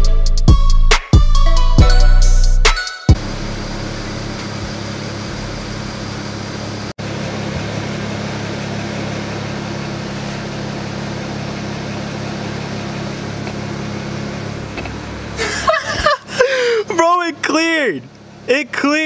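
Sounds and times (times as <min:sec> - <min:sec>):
car engine idling: 0:03.1 - 0:19.0.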